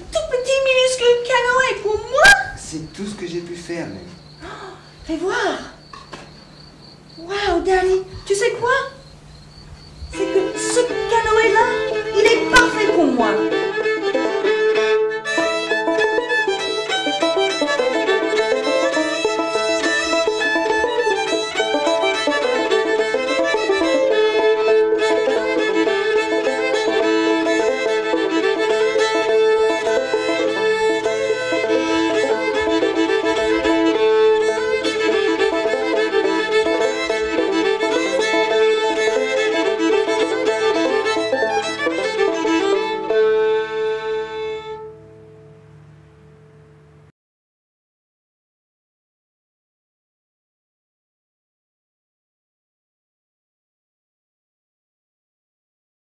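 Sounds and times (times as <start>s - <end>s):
fiddle tune: 0.0s - 6.7s, 7.3s - 47.1s.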